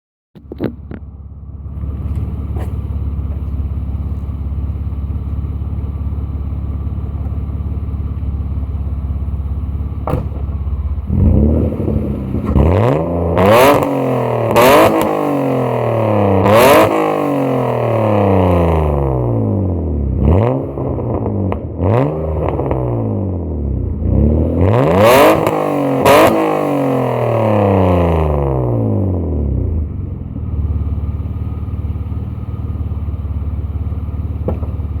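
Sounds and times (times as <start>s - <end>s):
car engine idling and revving: 0.4s - 35.0s.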